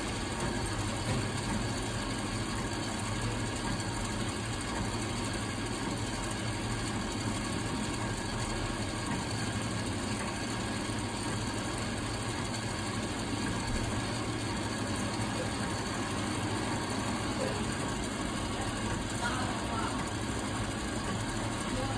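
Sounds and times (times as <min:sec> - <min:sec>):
ice maker mechanical hum: 0:00.0 - 0:21.9.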